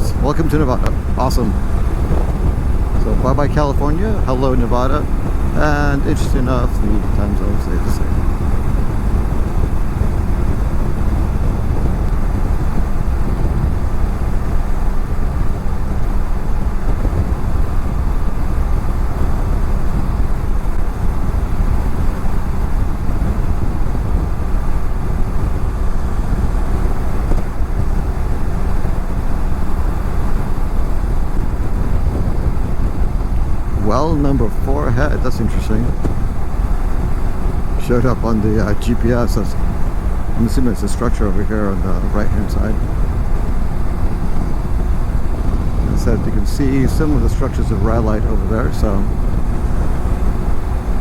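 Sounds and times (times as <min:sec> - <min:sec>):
wind noise on microphone: 0:00.0 - 0:51.0.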